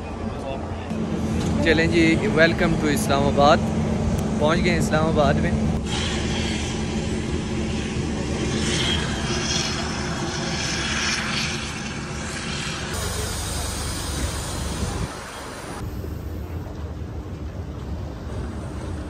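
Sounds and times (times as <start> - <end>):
aircraft engine rumble: 0.0 - 19.0.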